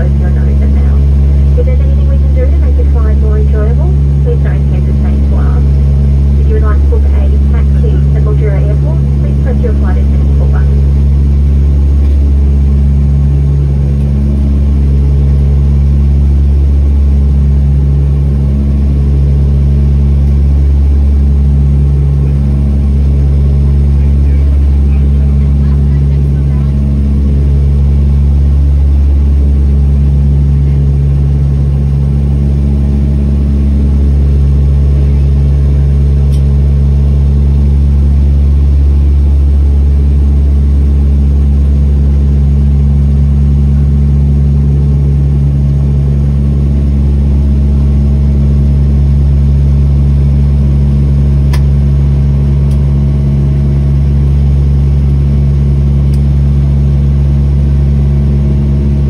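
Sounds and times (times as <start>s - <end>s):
propeller engine drone in cabin: 0.0s - 59.0s.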